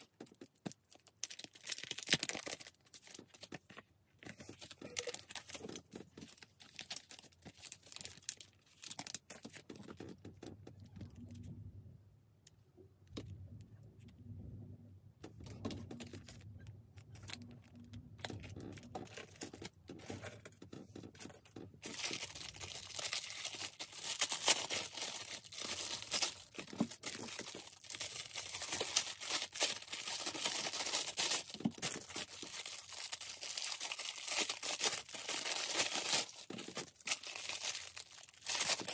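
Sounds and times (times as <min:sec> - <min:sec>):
plastic packaging crinkling: 0:00.0 - 0:11.3, 0:15.4 - 0:38.9.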